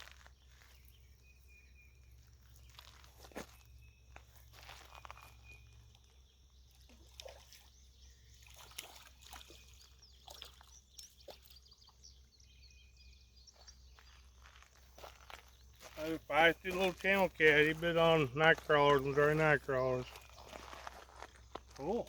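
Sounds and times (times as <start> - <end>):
faint high bird chirps: 0.1 - 22.0.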